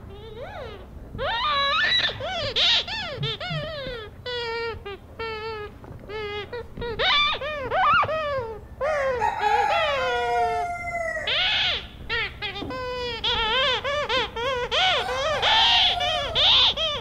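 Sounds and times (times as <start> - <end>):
rubber chicken toy squealing: 0.2 - 17.0.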